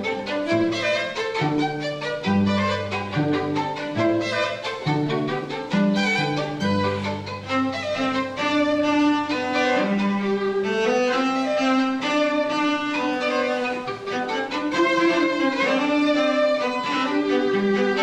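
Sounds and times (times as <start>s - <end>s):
string trio playing pop song: 0.0s - 18.0s.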